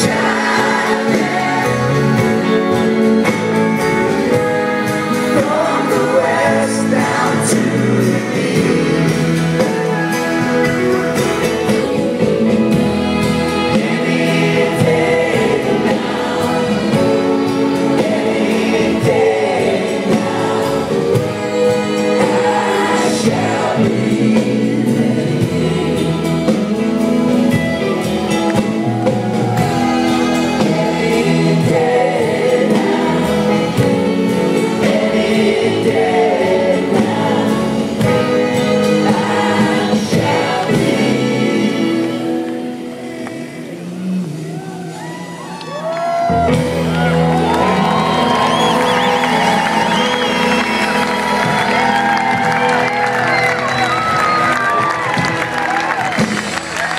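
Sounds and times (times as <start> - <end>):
gospel chorus singing: 0.0 - 56.9
live band music: 0.0 - 56.9.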